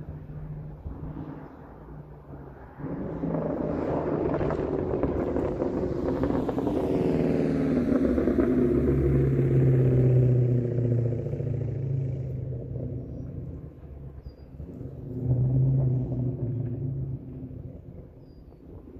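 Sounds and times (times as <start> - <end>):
car engine deep rumble: 0.0 - 18.9.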